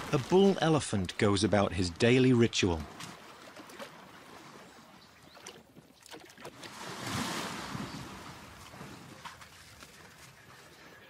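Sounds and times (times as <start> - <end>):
mud and water sloshing: 0.0 - 11.0.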